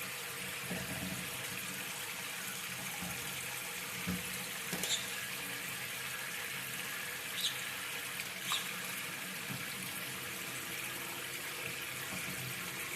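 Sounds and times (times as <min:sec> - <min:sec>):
shower water running: 0:00.0 - 0:12.9.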